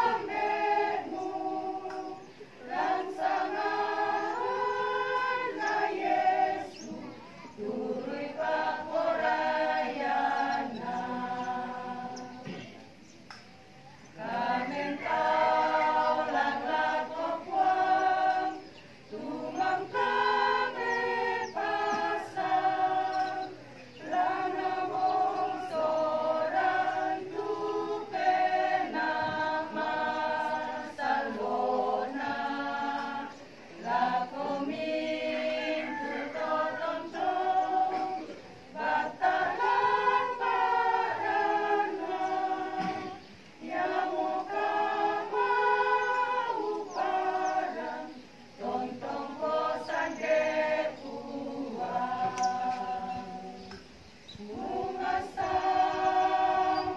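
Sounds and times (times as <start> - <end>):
choir singing a hymn: 0.0 - 56.9.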